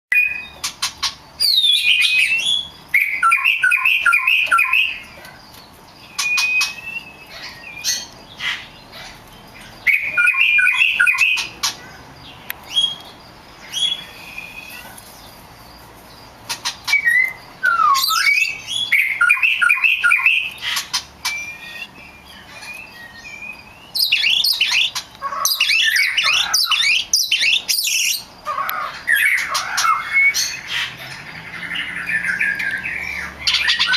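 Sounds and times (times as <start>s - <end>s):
songbirds chirping and singing: 0.1s - 33.9s.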